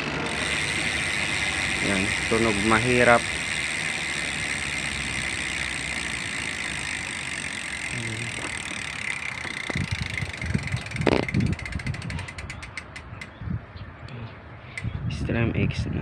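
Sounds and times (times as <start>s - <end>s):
bicycle freewheel clicking: 0.0s - 13.3s.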